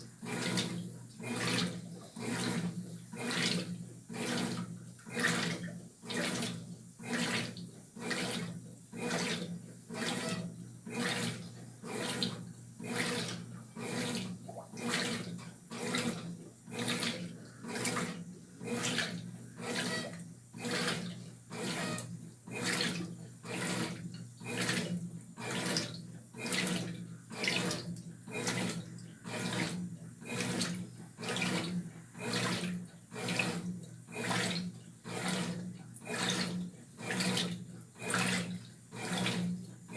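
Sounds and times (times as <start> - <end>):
washing machine motor hum: 0.0 - 39.9
washing machine sloshing: 0.0 - 39.9.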